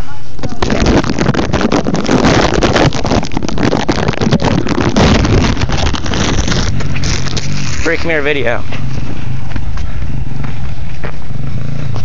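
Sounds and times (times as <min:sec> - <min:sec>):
wind buffeting microphone: 0:00.3 - 0:12.0.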